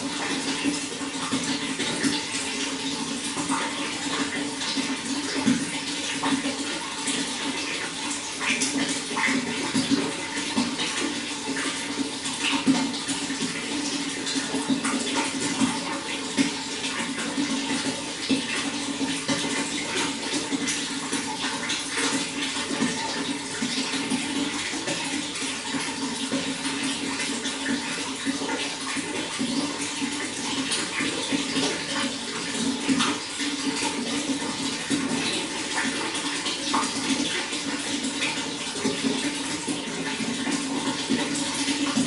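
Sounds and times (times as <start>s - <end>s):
running water splashing: 0.0s - 42.0s.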